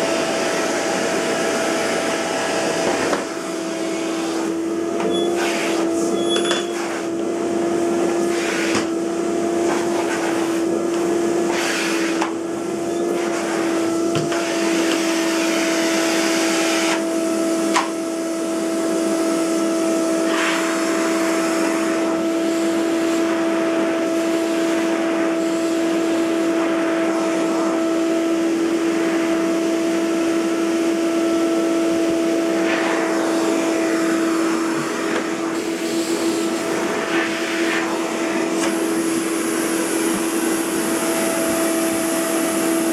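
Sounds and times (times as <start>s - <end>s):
vacuum cleaner motor whining: 0.0s - 42.9s.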